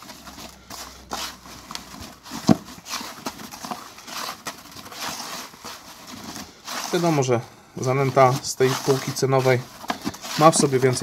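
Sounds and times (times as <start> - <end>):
groundbait swishing in plastic bucket: 0.0 - 11.0.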